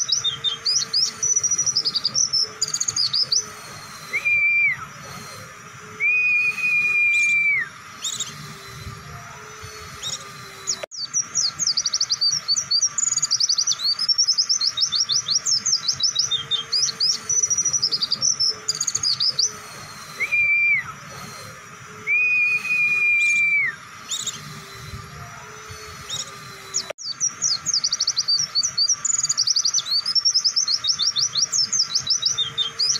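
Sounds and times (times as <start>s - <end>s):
bird whistles: 0.0s - 32.9s.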